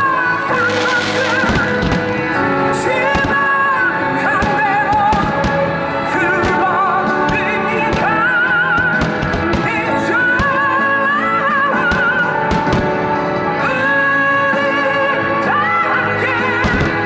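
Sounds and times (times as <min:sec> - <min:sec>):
fireworks popping and banging: 0:00.0 - 0:13.9, 0:16.4 - 0:17.0.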